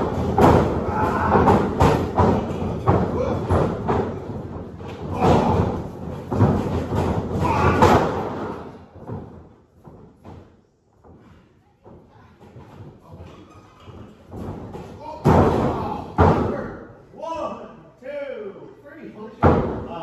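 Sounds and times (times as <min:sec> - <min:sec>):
feet stomping: 0:00.0 - 0:16.6
bodies thudding on ring canvas: 0:00.0 - 0:16.7.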